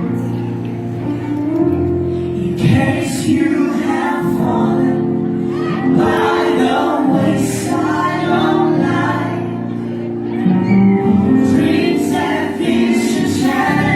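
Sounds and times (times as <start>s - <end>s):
held accompanying chords: 0.0s - 13.9s
person singing: 2.2s - 13.9s.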